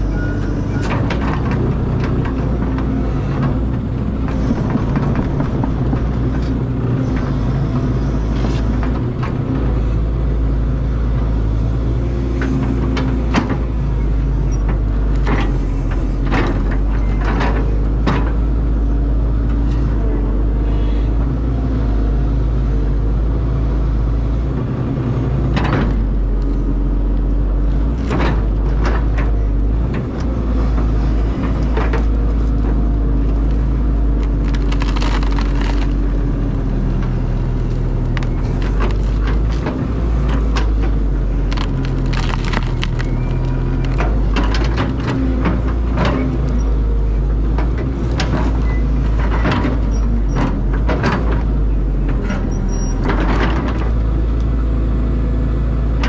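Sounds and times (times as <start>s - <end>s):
wood and dirt cracking: 0.0s - 21.7s, 23.6s - 56.0s
excavator diesel engine: 0.0s - 56.0s.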